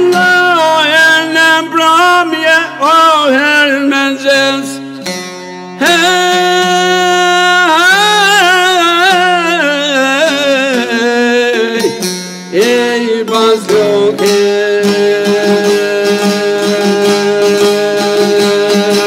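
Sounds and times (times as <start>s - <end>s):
man singing folk song: 0.0s - 19.0s
plucked long-necked lute: 0.0s - 19.0s.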